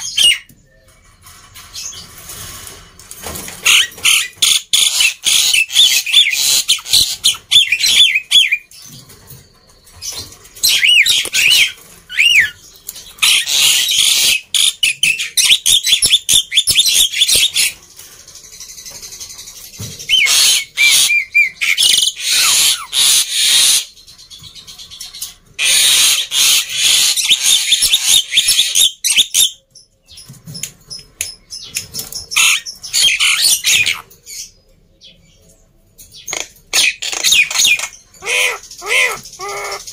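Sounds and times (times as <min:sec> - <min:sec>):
bird harsh raspy chatter: 0:03.6 - 0:29.6, 0:31.0 - 0:34.6, 0:36.2 - 0:39.9.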